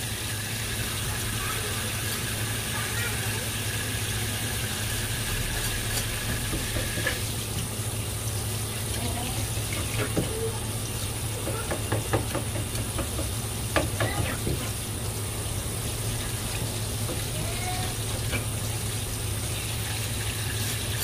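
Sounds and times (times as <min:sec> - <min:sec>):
tap water running onto board: 0:00.1 - 0:21.0.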